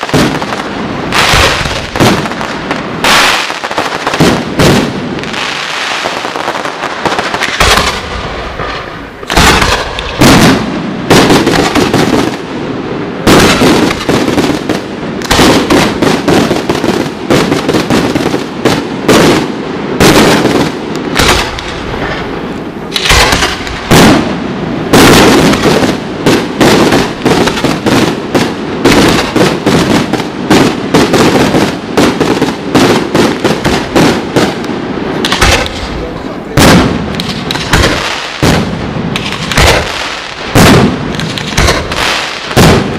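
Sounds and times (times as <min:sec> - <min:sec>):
firework shells bursting: 0:00.0 - 0:12.5, 0:13.2 - 0:16.6, 0:20.0 - 0:42.9
continuous firework din: 0:00.0 - 0:42.9.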